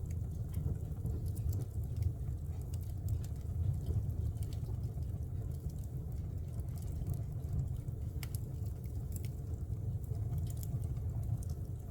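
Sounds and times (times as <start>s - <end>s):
burning wood crackling and popping: 0.1s - 11.9s
fire flames rumbling: 0.1s - 11.9s.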